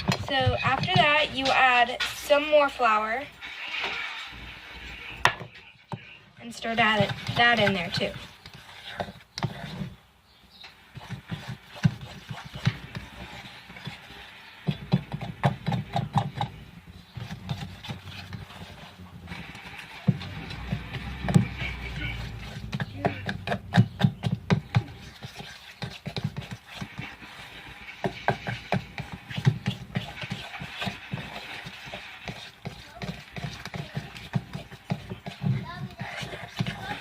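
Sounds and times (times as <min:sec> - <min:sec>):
spoon stirring in a bowl: 0:00.0 - 0:37.0.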